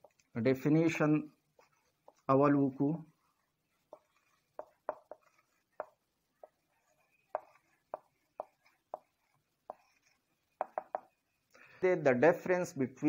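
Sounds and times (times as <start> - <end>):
marker pen writing on whiteboard: 0.0 - 11.5.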